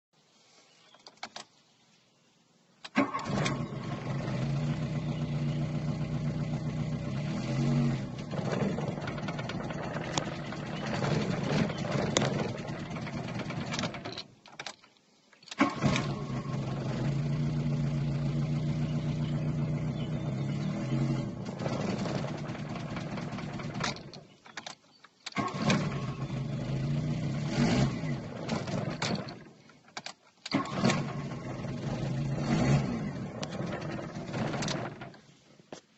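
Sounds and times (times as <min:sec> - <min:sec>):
car engine starting and stalling: 0:02.9 - 0:14.8, 0:15.5 - 0:24.7, 0:25.3 - 0:35.3.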